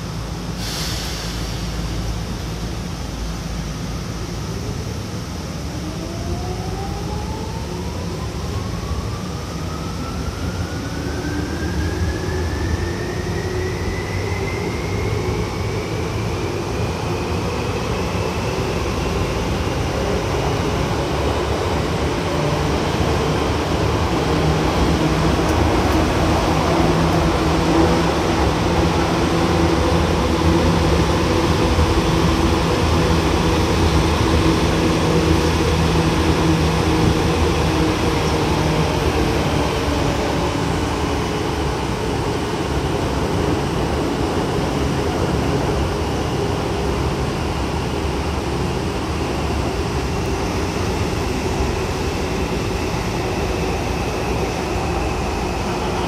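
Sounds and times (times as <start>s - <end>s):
train running rumble and hum: 0.0s - 56.0s.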